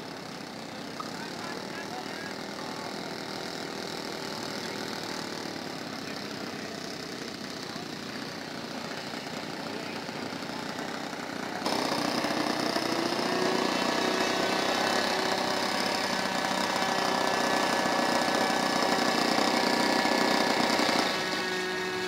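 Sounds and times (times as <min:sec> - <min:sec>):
model airplane engine running: 0:00.0 - 0:22.0.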